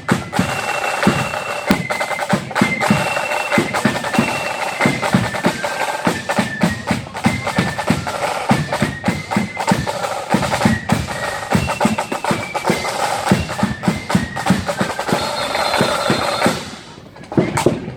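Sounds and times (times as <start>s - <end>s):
flutes playing melody: 0.0s - 17.9s
rapid snare drum: 0.0s - 17.9s.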